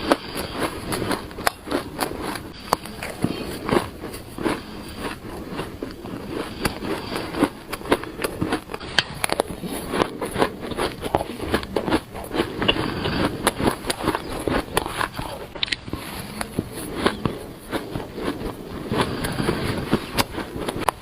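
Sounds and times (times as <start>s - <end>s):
shaved ice being chewed: 0.0s - 21.0s.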